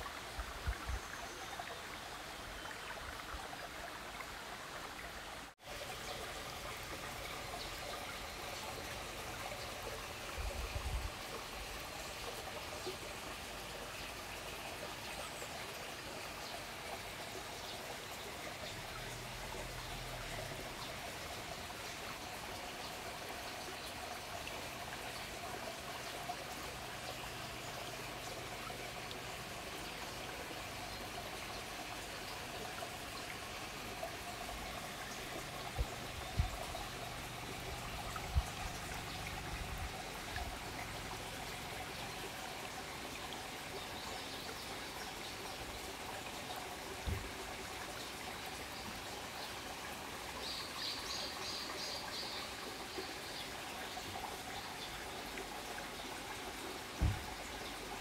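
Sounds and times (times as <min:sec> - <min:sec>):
trickling running water: 0:00.0 - 0:58.0.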